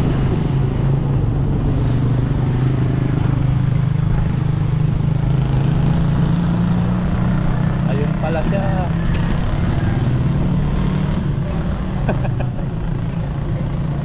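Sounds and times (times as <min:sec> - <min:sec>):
wind and road noise: 0:00.0 - 0:14.0
small motorcycle engine running: 0:02.1 - 0:14.0.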